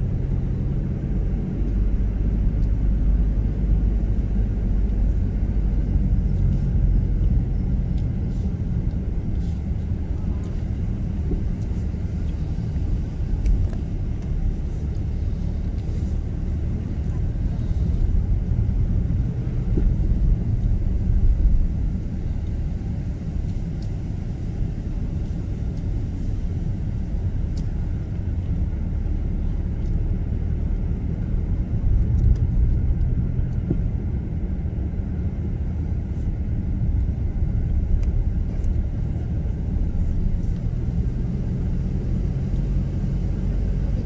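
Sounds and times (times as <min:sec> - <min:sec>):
car driving on paved road: 0:00.0 - 0:44.0.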